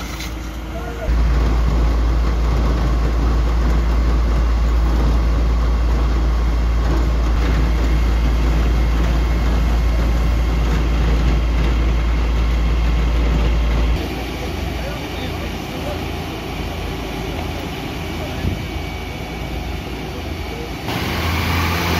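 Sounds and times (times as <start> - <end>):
diesel truck engines rumbling: 0.0 - 21.9.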